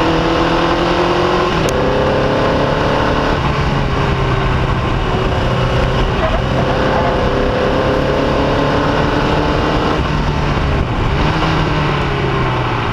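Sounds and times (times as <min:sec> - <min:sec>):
racing car engine under load: 0:00.0 - 0:12.9.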